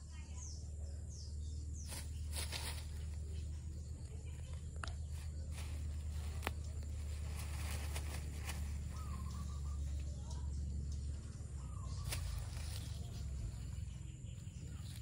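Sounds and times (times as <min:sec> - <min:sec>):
faint bird chirps: 0:00.0 - 0:15.0
steady low rumble: 0:00.0 - 0:15.0.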